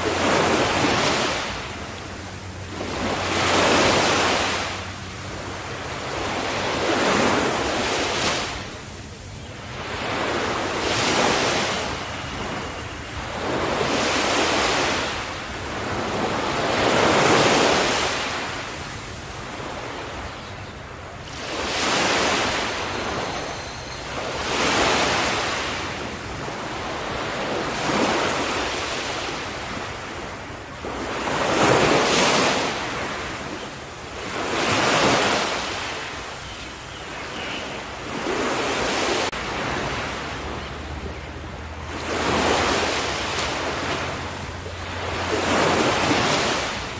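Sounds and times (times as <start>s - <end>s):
ocean waves washing ashore: 0.0s - 46.9s.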